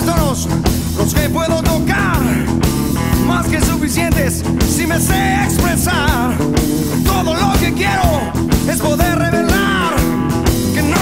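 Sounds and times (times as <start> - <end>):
bass guitar: 0.0 - 11.0
drums: 0.0 - 11.0.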